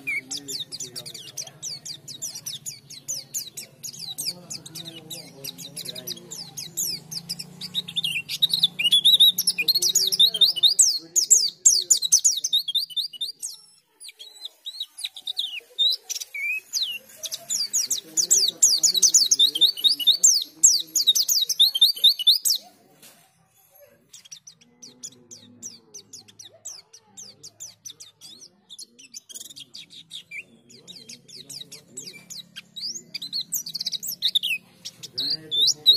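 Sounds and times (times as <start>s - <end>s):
bird warbling and twittering: 0.0s - 35.9s.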